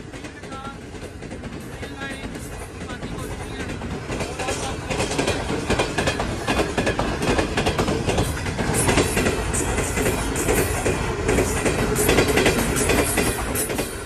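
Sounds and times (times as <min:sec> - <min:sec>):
train coaches rushing past: 0:00.0 - 0:14.0
wheels clattering over rail joints: 0:00.0 - 0:14.0.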